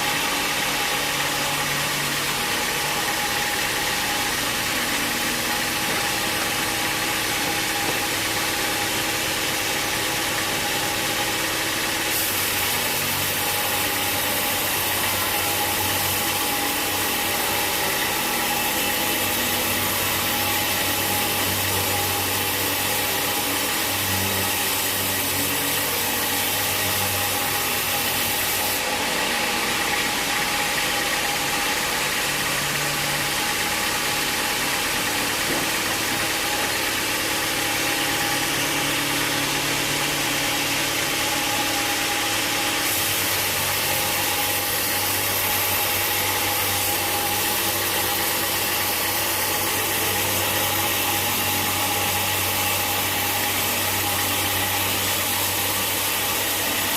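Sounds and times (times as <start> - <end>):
sawmill machinery drone and hiss: 0.0 - 56.9.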